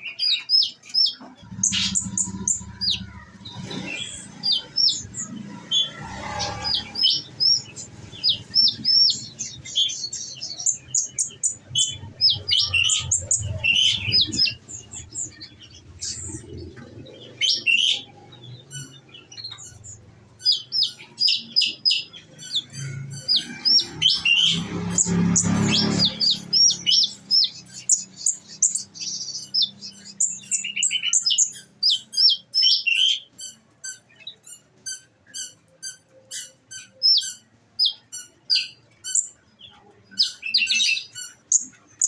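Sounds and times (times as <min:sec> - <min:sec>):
sunbird singing high chirps: 0:00.0 - 0:42.0.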